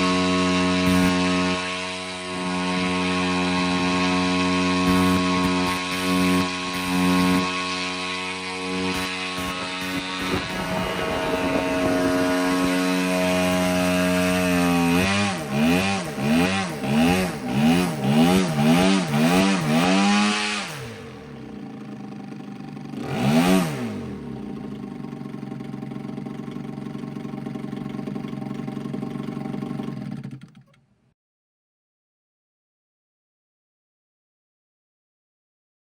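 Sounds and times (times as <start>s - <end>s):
small engine revving and idling: 0.0s - 30.8s.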